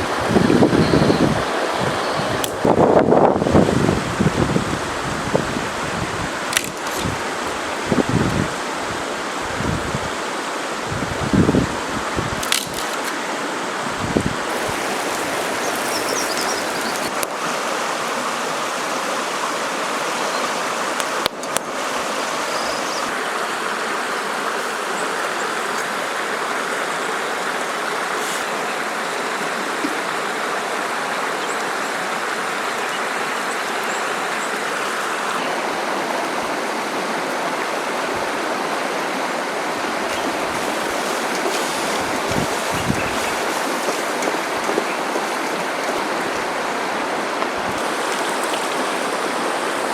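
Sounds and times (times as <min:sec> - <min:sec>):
river rushing: 0:00.0 - 0:49.9.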